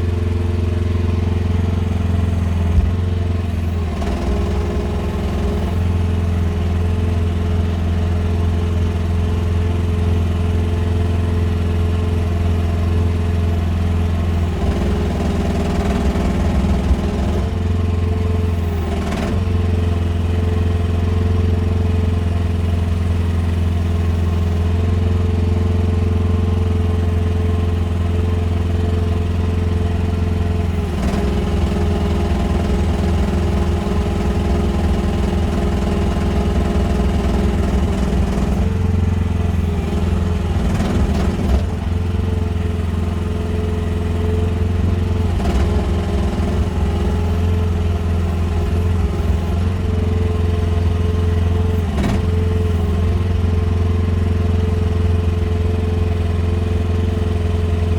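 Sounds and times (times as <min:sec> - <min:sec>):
mini excavator engine running: 0:00.0 - 0:57.9.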